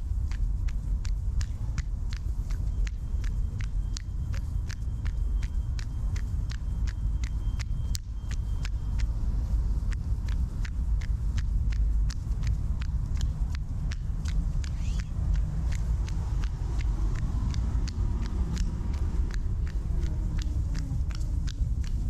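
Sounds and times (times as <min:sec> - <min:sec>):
city traffic rumble: 0:00.0 - 0:22.0
running footsteps on pavement: 0:00.0 - 0:22.0
wind: 0:00.0 - 0:22.0.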